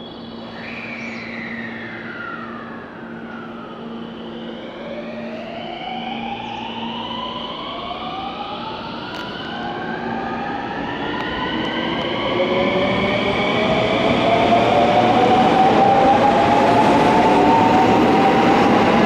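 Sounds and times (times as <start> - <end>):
train traction motor whine: 0.0 - 19.0.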